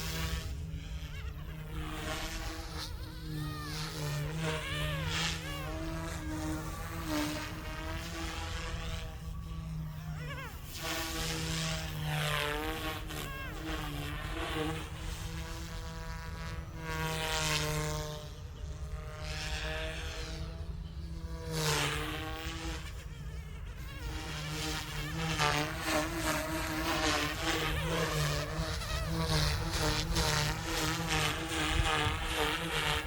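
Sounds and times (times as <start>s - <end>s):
rc helicopter motor and rotor whine: 0.0s - 33.0s.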